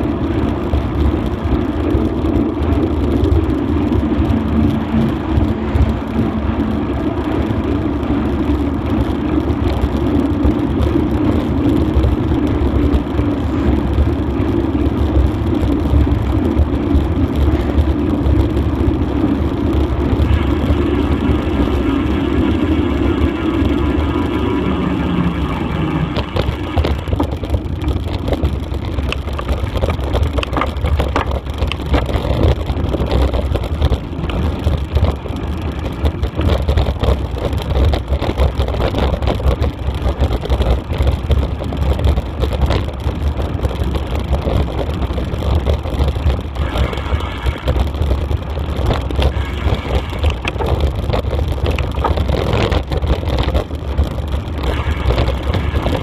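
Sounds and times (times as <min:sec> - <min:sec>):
tyres crackling on dirt track: 0:00.0 - 0:56.0
vehicle rumble: 0:00.0 - 0:56.0
wind buffeting microphone: 0:00.0 - 0:56.0.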